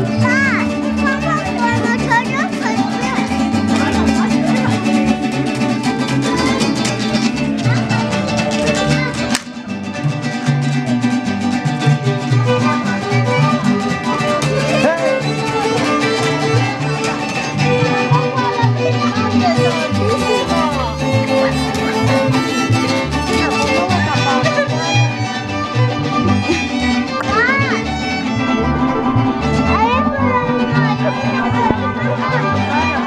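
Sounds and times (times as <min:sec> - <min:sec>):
bass line: 0:00.0 - 0:33.0
strummed guitars: 0:00.0 - 0:33.0
violin melody: 0:00.0 - 0:33.0.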